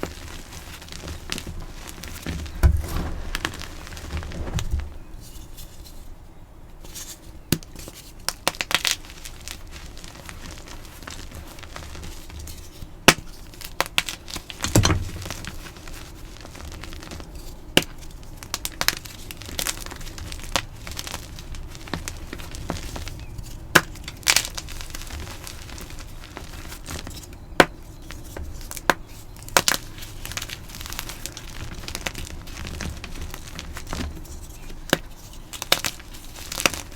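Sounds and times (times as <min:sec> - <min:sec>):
chalk crackling and crunching: 0:00.0 - 0:06.1, 0:06.8 - 0:36.9.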